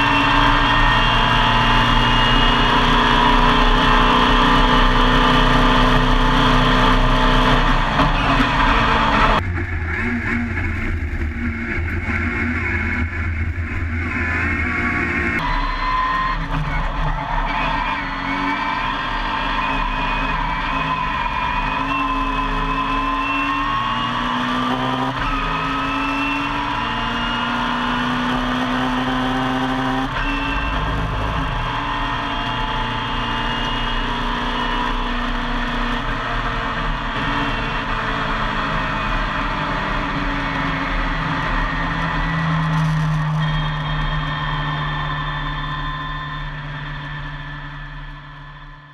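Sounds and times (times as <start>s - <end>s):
gear changes: 0.0s - 48.9s
race car engine accelerating: 0.0s - 48.9s.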